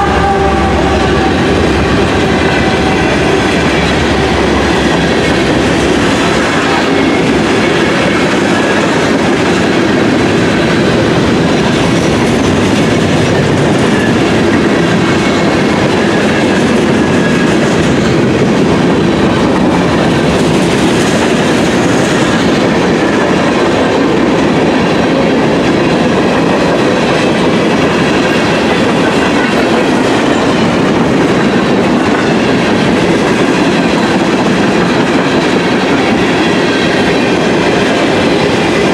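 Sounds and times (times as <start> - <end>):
train wheels clattering on rails: 0.0 - 38.9.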